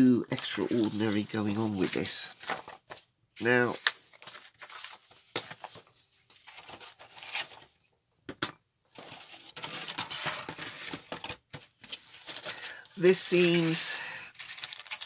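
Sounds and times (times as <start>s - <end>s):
paper rustling: 0.3s - 7.7s, 9.0s - 15.0s.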